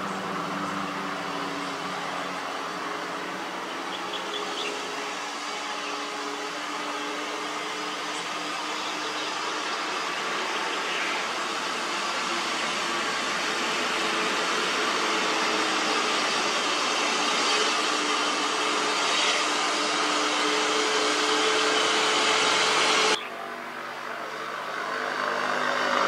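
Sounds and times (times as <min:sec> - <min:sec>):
distant diesel truck engine drone: 0:00.0 - 0:26.0.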